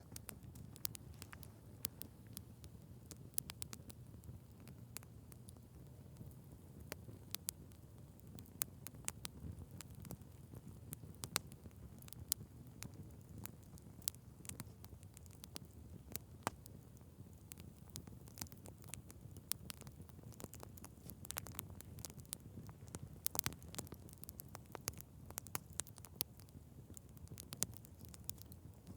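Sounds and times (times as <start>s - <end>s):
fire pops and snaps: 0.0s - 28.9s
low rumble of burning fire: 0.0s - 28.9s
wood fire crackling: 0.0s - 28.9s.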